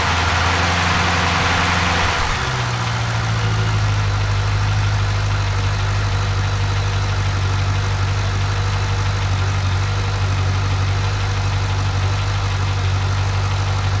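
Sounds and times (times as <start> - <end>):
car engine idling: 0.0 - 14.0
engine ticking: 0.0 - 14.0.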